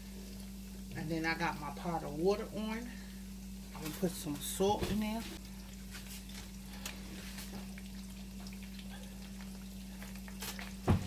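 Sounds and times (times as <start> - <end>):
food frying in oil: 0.0 - 11.0
steady low hum: 0.0 - 11.0.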